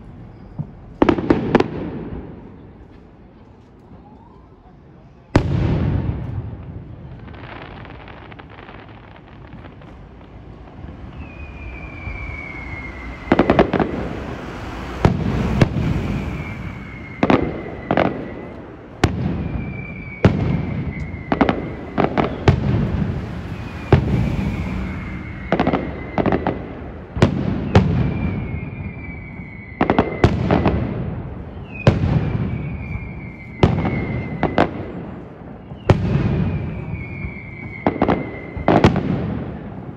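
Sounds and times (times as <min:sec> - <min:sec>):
falling firework whistle: 0:00.0 - 0:02.3, 0:07.2 - 0:39.9
firework bangs: 0:00.0 - 0:03.2, 0:05.3 - 0:39.9.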